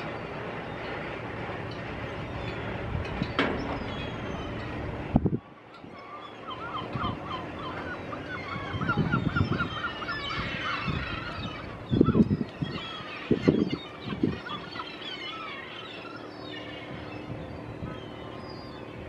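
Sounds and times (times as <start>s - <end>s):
gulls calling: 0.0s - 19.0s.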